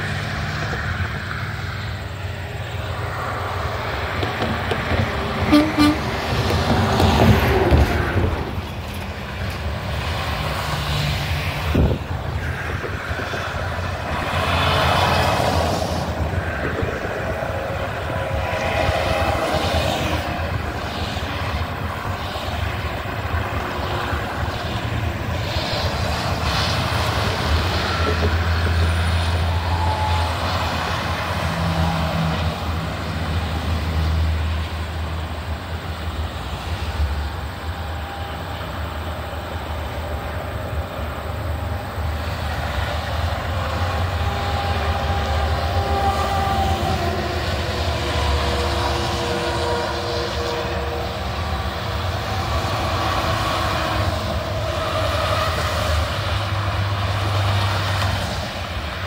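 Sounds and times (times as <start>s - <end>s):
cars and trucks passing: 0.0s - 59.0s
diesel engine drone: 0.0s - 59.0s.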